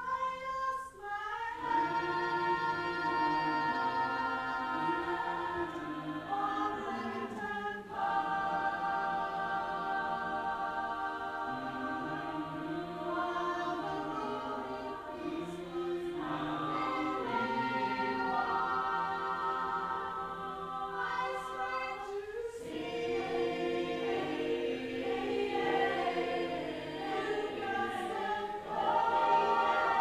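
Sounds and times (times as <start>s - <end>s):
voices singing slow chords: 0.0s - 30.0s.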